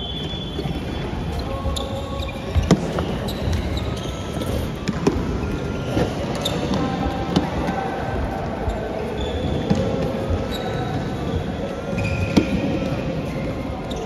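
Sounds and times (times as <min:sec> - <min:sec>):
shoes squeaking on court floor: 0:00.0 - 0:14.0.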